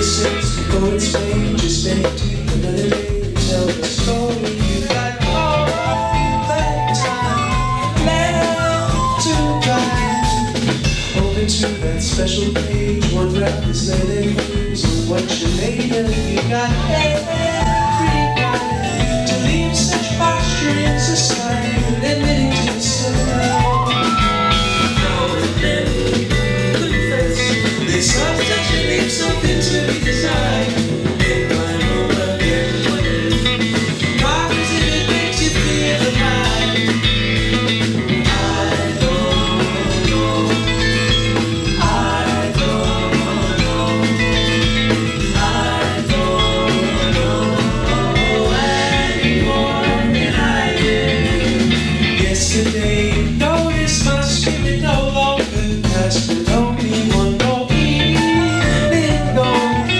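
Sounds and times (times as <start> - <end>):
drums and bass groove: 0.0 - 59.9.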